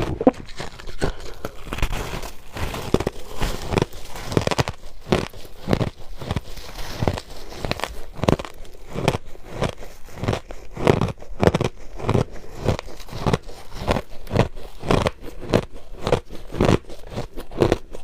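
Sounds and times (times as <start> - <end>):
crushed ice being chewed: 0.0 - 18.0.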